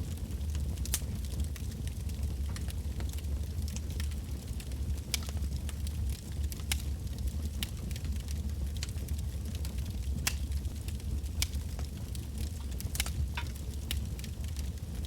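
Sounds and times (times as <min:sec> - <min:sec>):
fire rumbling: 0:00.0 - 0:15.0
logs crackling and popping: 0:00.1 - 0:15.0.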